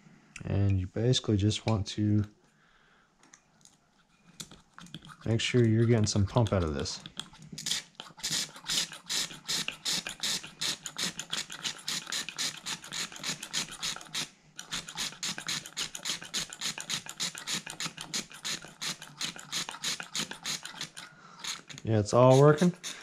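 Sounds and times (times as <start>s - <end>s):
carburetor pump clicking strokes: 4.4s - 23.0s.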